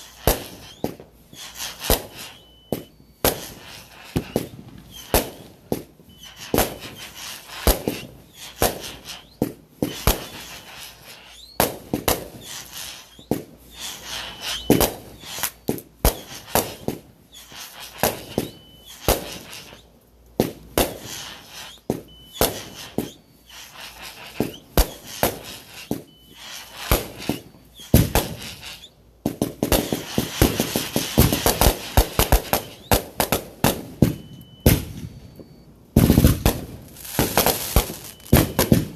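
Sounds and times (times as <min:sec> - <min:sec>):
fireworks cracking and banging: 0:00.0 - 0:38.9.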